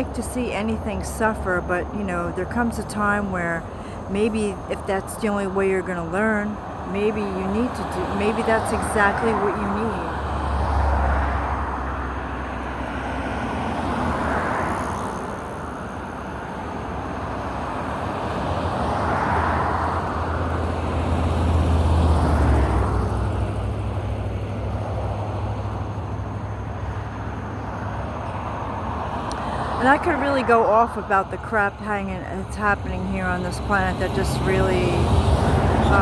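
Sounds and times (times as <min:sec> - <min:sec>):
vehicles passing: 0:00.0 - 0:36.0.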